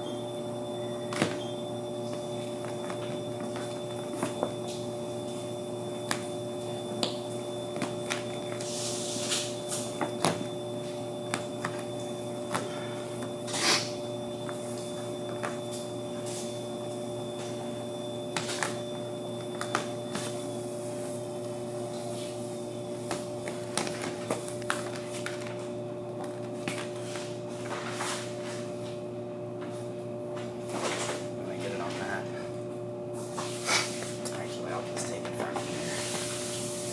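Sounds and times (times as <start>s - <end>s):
steady hum: 0.0s - 36.9s.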